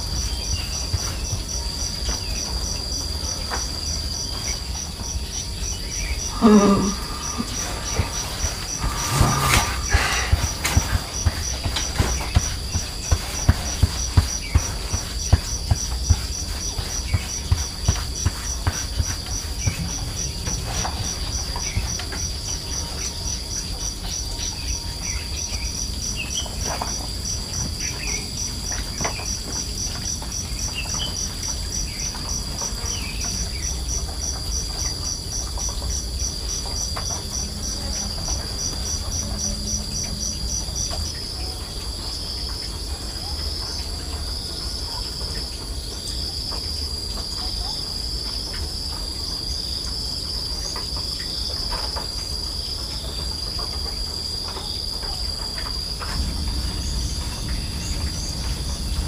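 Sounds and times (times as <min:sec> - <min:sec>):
insects calling: 0:00.0 - 0:59.0.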